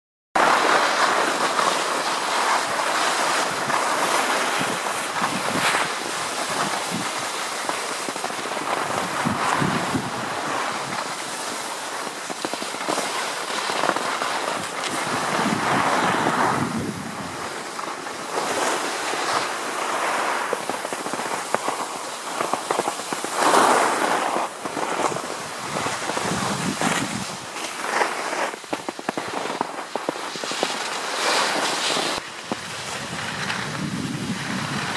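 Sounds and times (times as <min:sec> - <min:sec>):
skis scraping over snow: 0:00.4 - 0:34.9.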